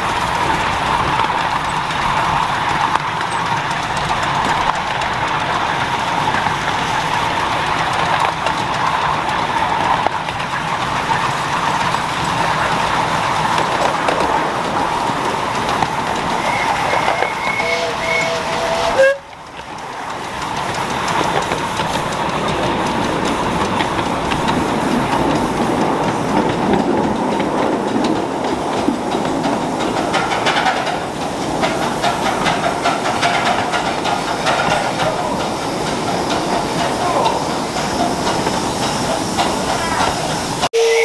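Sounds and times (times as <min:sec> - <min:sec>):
clicks over rail joints: 0:00.0 - 0:40.7
miniature train wheels rumbling: 0:00.0 - 0:41.0.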